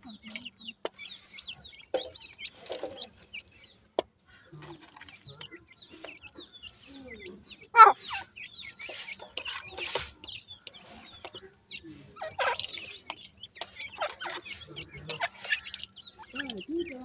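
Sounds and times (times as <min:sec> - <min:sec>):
chicks chirping: 0:00.0 - 0:17.0
harsh bird calls: 0:00.0 - 0:17.0
rustling in dry soil: 0:00.0 - 0:17.0.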